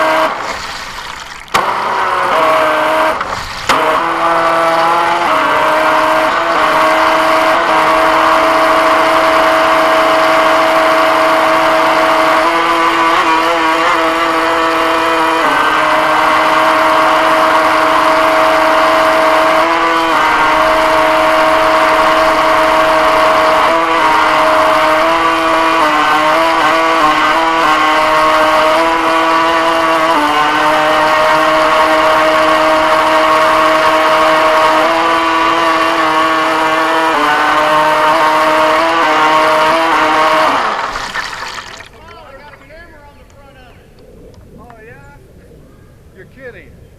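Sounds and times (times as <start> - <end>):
model boat motor whining: 0.0 - 42.5.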